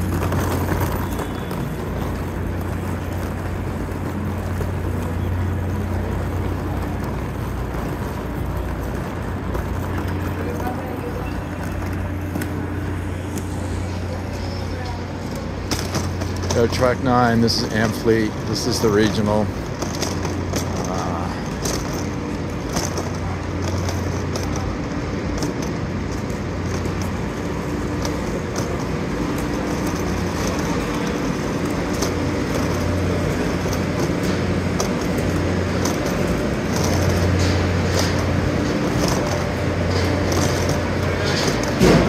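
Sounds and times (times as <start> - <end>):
footsteps: 0.0 - 42.0
rolling suitcase wheels: 0.0 - 42.0
trains humming at platform: 0.0 - 42.0.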